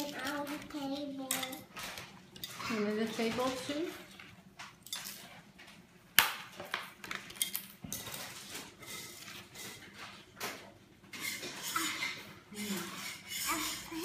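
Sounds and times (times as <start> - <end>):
kitchenware clattering on table: 0.0 - 5.8, 6.4 - 14.0.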